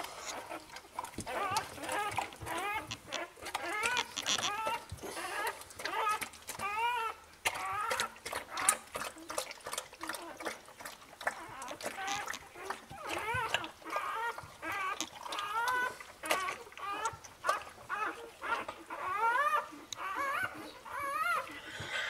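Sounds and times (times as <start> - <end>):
dog licking with wet slurps: 0.0 - 22.0
puppy squealing: 1.3 - 8.8, 11.4 - 22.0.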